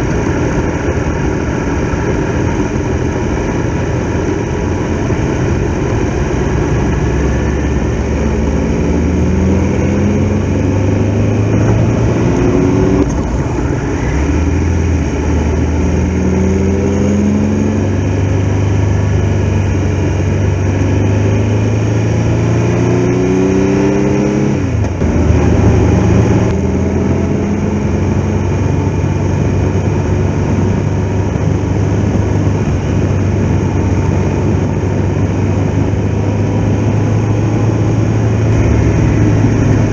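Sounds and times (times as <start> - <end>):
wind rush: 0.0 - 22.5, 23.2 - 39.9
motorcycle engine accelerating: 0.0 - 39.9.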